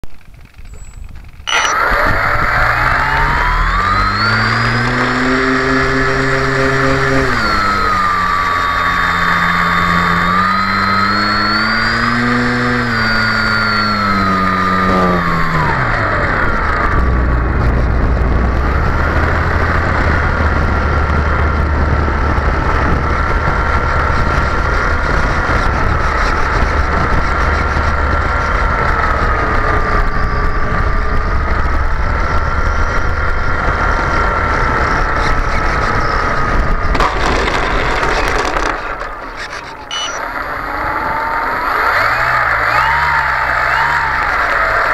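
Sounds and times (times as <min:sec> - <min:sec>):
model airplane motor and propeller: 0:00.1 - 0:44.9.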